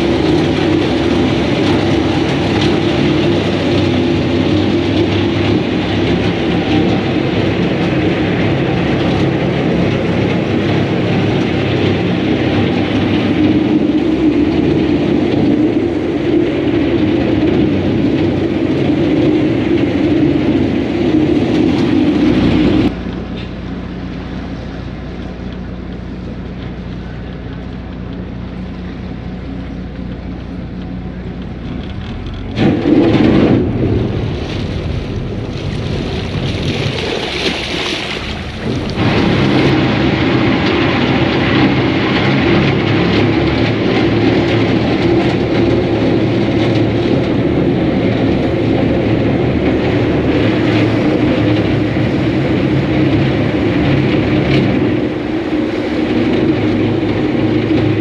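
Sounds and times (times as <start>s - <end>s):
boat diesel engine droning: 0.0s - 58.0s
churned water rushing: 0.0s - 58.0s.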